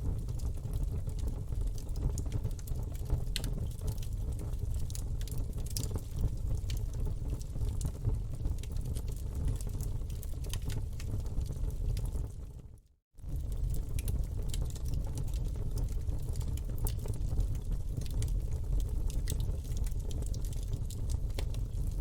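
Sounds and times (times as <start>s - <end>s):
campfire flames rumbling: 0.0s - 12.6s, 13.2s - 22.0s
burning wood crackling and popping: 0.2s - 12.4s, 13.2s - 22.0s.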